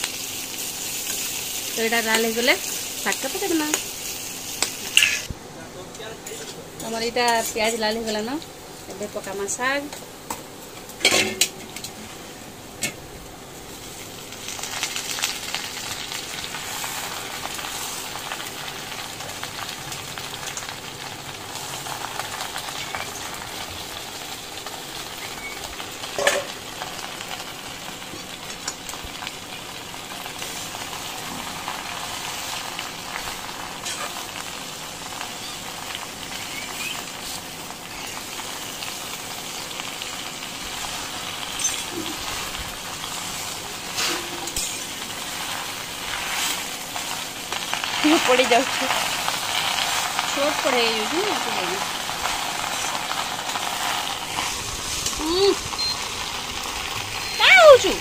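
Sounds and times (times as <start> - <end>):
leaves sizzling in hot oil: 0.0 - 58.0.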